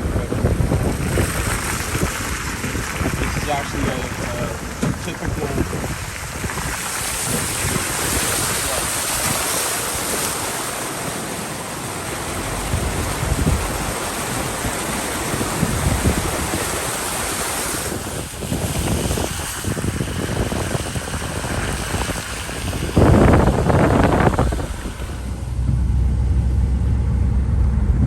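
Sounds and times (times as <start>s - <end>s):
floodwater rushing and splashing: 0.0s - 25.6s
wind buffeting microphone: 0.0s - 26.6s.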